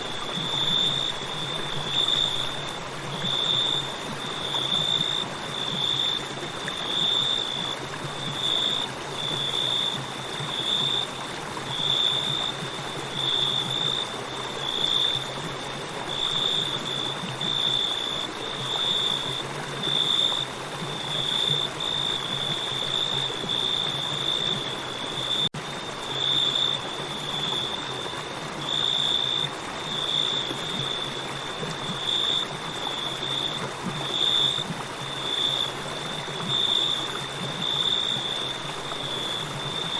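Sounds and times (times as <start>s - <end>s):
crickets chirping: 0.0s - 39.9s
river water flowing: 0.0s - 39.9s.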